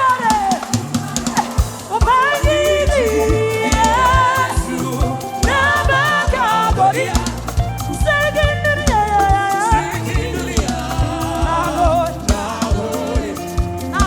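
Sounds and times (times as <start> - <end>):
band with bass and drums: 0.0 - 14.0
voices singing together: 0.0 - 14.0.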